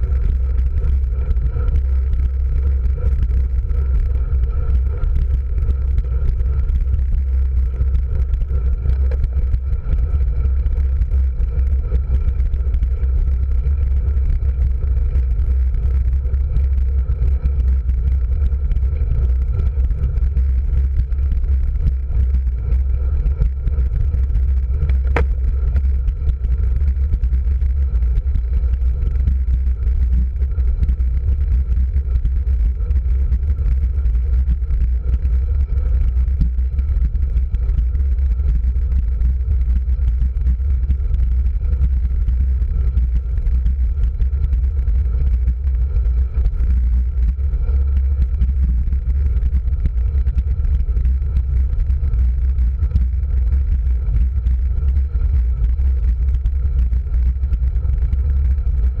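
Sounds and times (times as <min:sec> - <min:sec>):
wind and road rumble: 0:00.0 - 0:59.0.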